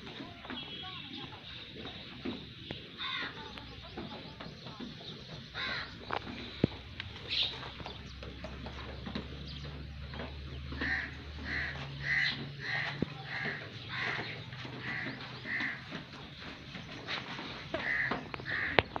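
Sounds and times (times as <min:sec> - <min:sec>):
bird calling: 0:00.0 - 0:19.0.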